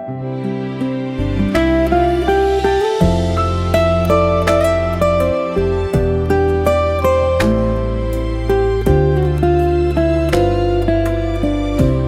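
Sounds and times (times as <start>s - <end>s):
plucked string notes: 0.0s - 12.0s.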